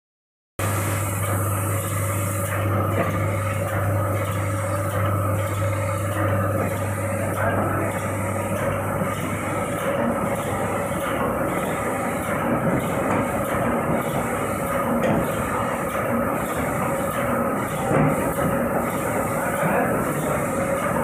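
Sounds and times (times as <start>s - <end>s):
printing machine humming: 0.6s - 21.0s.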